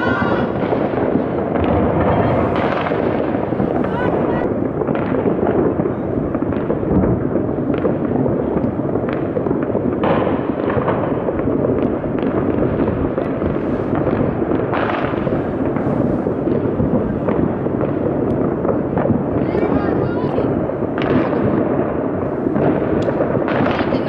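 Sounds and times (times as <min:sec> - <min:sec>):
fireworks and firecrackers: 0:00.0 - 0:24.0.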